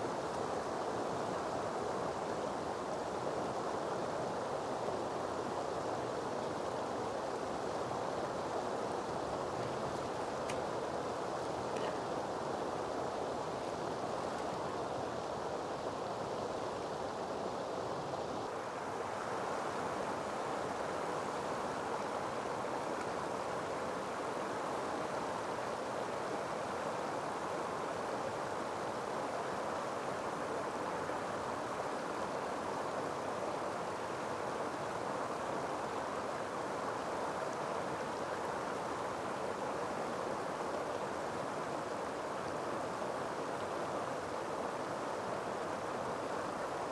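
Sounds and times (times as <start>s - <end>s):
shallow river water rushing: 0.0s - 46.9s.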